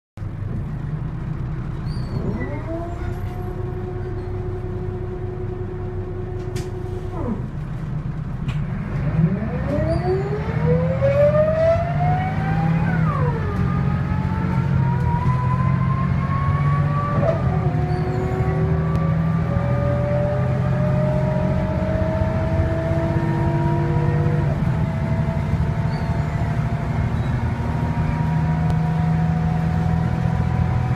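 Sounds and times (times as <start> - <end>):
engine rumble: 0.2 - 30.9.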